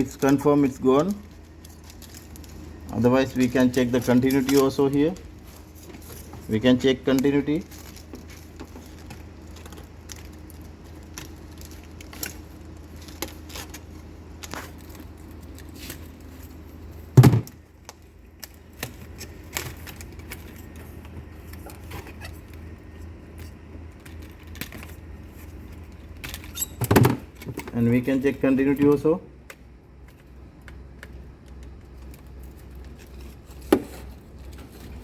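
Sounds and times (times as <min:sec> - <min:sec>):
clicks and rattles of wires: 0:00.0 - 0:35.0
steady low hum: 0:00.0 - 0:35.0.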